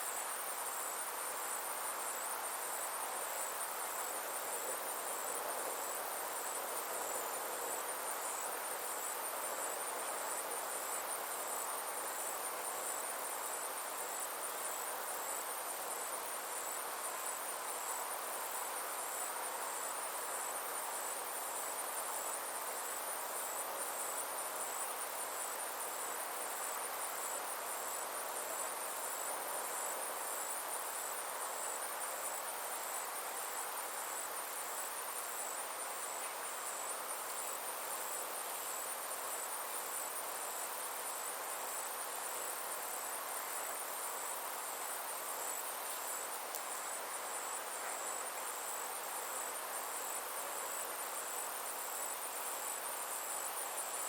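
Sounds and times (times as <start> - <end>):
insects trilling: 0.0 - 54.0
soft even hiss: 0.0 - 54.0.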